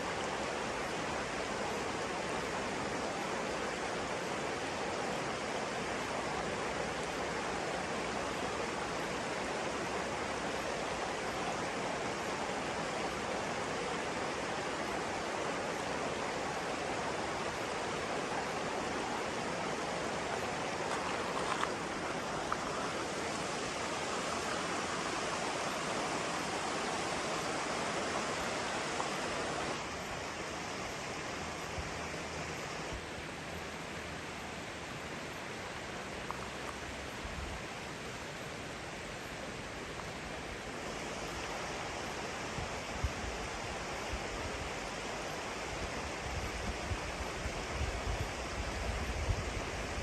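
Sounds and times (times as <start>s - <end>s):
water rushing: 0.0s - 50.0s.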